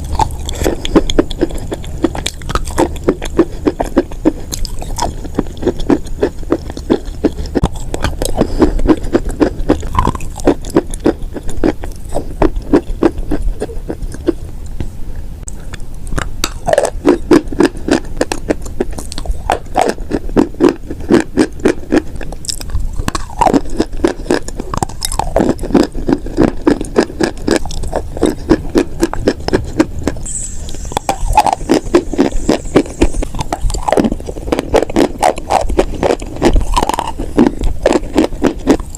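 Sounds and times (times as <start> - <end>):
chewing chalk with dry crunches: 0.0 - 14.4, 16.1 - 30.2, 30.9 - 38.9.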